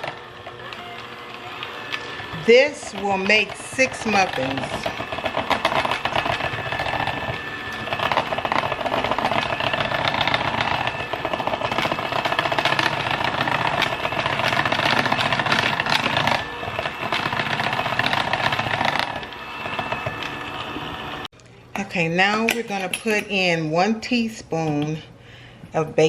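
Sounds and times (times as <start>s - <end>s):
electric mixer whining and rattling: 0.0s - 21.3s.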